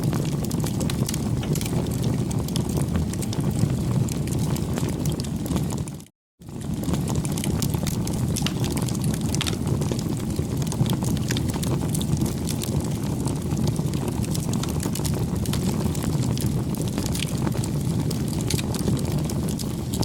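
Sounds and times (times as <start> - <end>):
burning wood crackling and popping: 0.0 - 20.0
rush of flames: 0.0 - 20.0.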